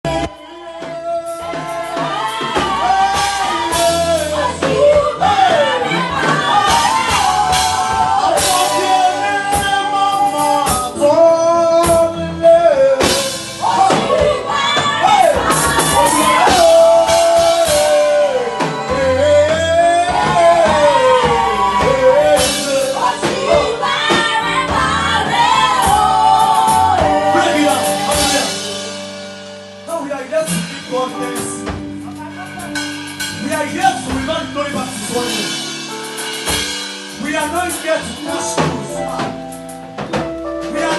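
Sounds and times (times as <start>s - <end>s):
band accompaniment: 0.0s - 40.9s.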